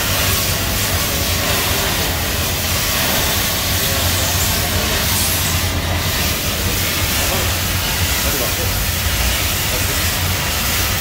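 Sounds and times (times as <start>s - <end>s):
cutting torch hissing: 0.0s - 11.0s.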